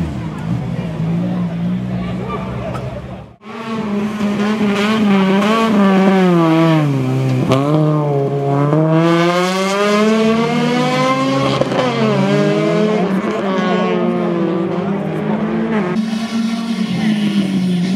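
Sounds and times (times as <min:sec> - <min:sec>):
car engine revving hard: 0:03.4 - 0:17.9.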